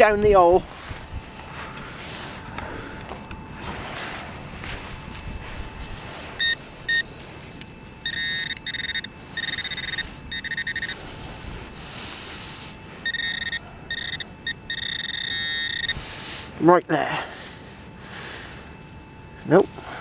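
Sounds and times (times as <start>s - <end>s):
metal detector beeping: 0.0s - 16.8s.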